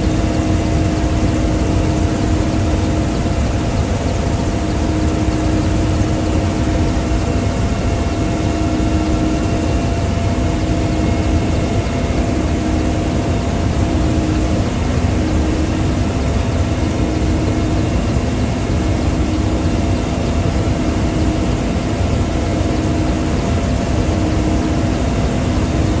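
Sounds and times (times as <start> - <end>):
constant whine: 0.0 - 26.0
helicopter engine and rotor drone: 0.0 - 26.0.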